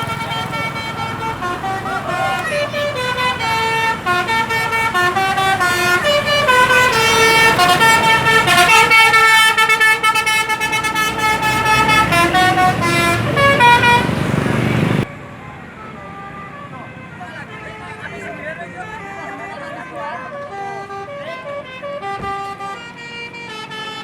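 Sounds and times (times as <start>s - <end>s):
multi-tone musical bus horn: 0.0s - 24.0s
road and engine noise: 0.0s - 24.0s.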